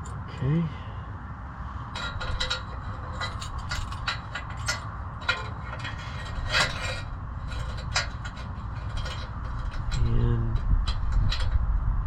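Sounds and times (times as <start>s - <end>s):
steady low hum: 0.0s - 12.0s
small metal clinks and scrapes: 1.8s - 11.7s.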